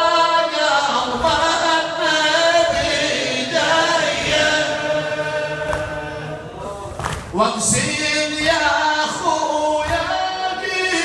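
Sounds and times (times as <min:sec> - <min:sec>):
man chanting a lament: 0:00.0 - 0:11.0.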